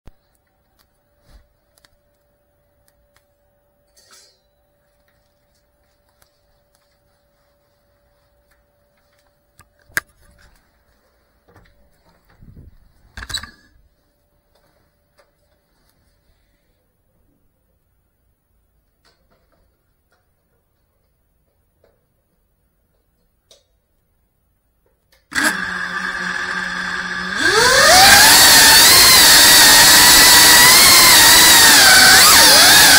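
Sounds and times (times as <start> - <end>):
faint steady hum: 0.1 - 27.3.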